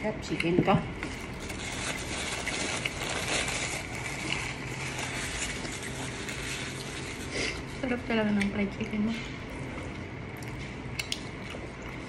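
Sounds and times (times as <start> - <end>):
chewing fried chicken: 0.3 - 12.0.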